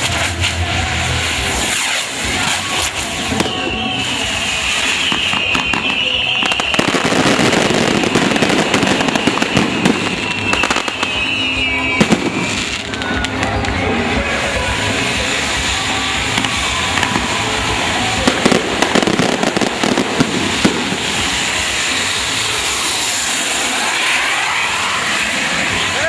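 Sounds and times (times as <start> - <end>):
firework bangs and crackles: 0.0 - 26.0
firework hissing: 0.0 - 26.0.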